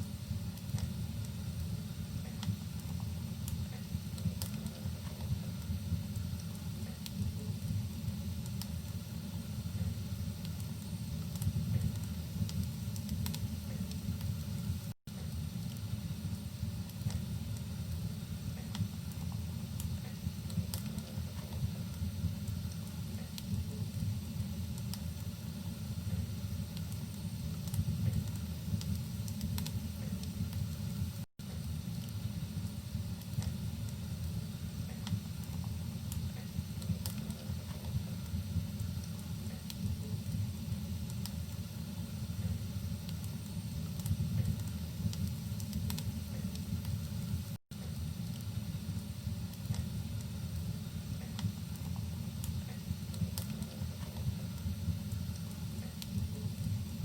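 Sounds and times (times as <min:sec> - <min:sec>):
rain hissing: 0:00.0 - 0:57.0
wood fire crackling: 0:00.0 - 0:57.0.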